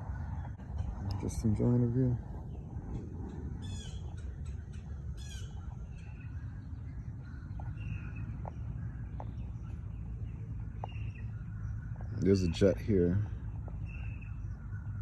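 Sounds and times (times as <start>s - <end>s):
loud bird calls: 0.0s - 15.0s
low rumble: 0.0s - 15.0s.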